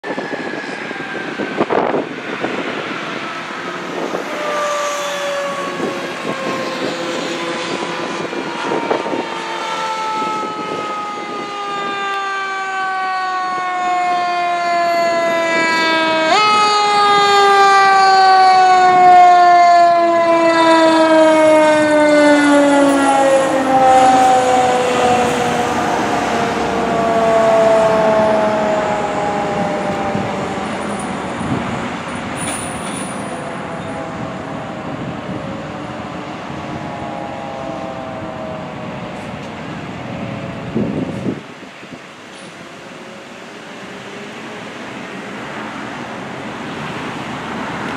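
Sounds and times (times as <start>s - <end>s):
mechanical siren winding down: 0.0s - 32.1s, 33.1s - 41.3s.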